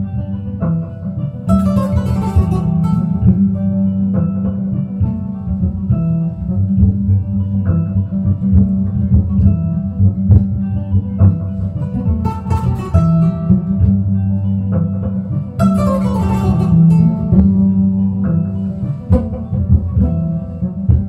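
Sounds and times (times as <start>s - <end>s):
plucked harp-lute: 0.0s - 21.0s.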